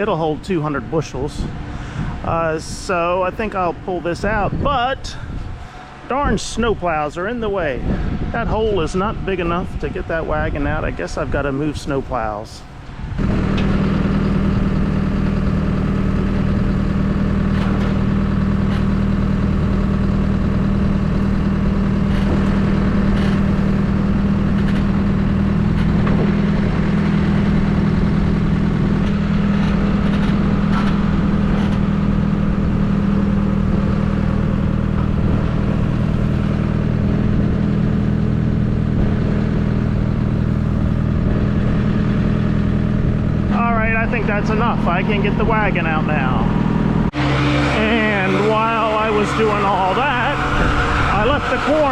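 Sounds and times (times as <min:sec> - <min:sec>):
farm machine engine running: 0:00.0 - 0:51.9.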